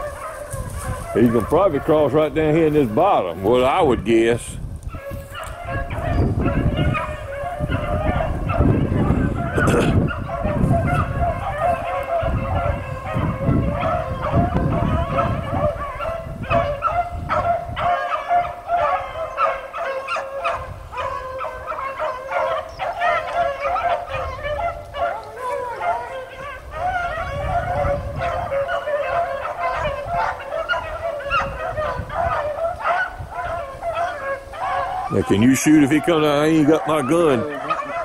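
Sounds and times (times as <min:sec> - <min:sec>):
beagles baying: 0:00.0 - 0:38.0.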